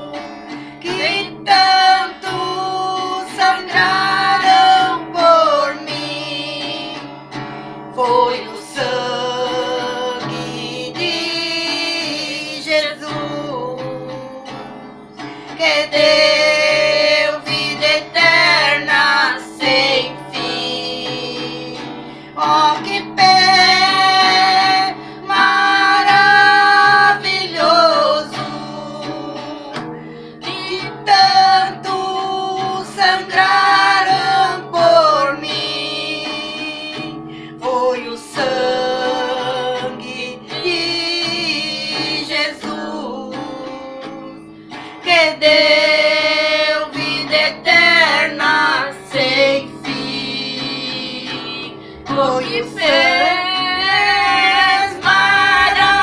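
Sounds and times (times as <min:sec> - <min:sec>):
strummed acoustic guitar: 0:00.0 - 0:56.0
women singing a hymn: 0:00.0 - 0:56.0.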